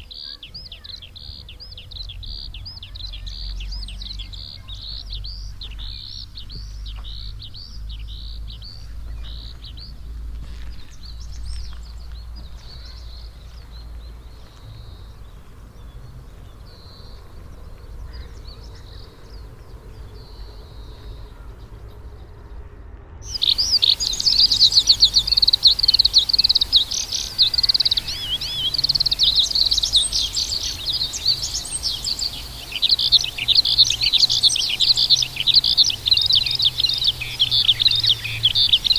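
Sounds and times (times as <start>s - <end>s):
birds chirping and singing: 0.0s - 22.1s, 23.2s - 38.9s.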